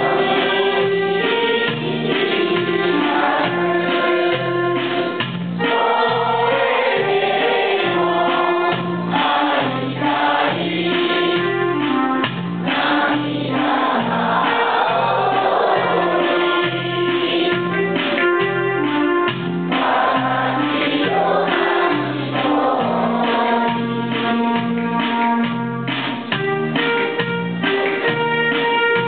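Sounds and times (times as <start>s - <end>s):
electronic keyboard melody: 0.0s - 29.0s
steady bass line: 0.0s - 29.0s.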